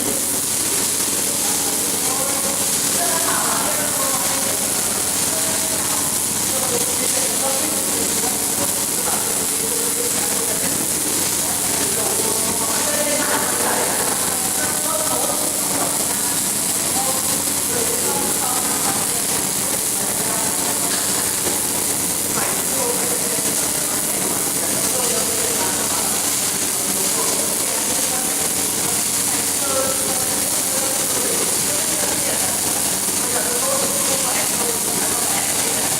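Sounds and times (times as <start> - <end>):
welding arc crackling hiss: 0.0 - 35.9.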